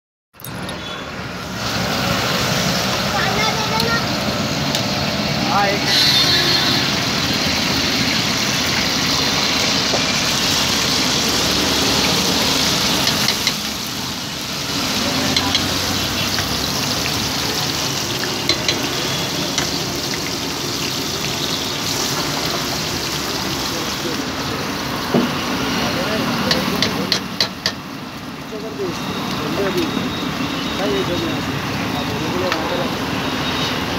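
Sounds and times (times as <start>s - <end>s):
food sizzling in oil: 0.4s - 33.9s.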